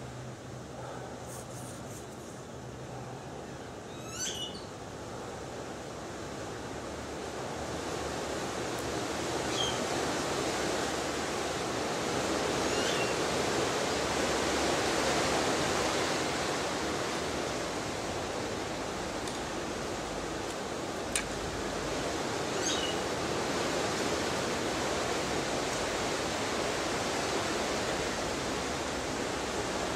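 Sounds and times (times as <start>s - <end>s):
steady rushing outdoor noise: 0.0s - 4.0s, 4.6s - 29.9s.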